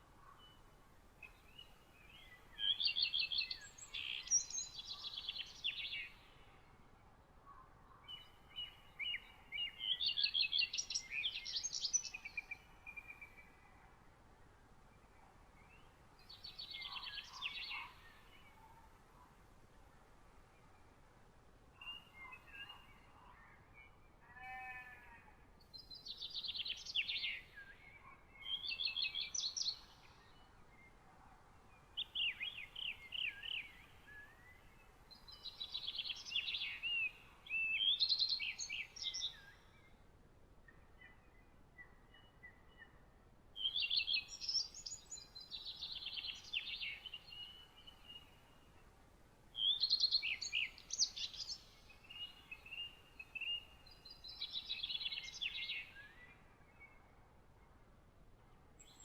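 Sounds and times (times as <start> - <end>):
songbird singing: 0.0 - 14.0, 14.8 - 21.0, 21.7 - 57.8, 58.8 - 59.0.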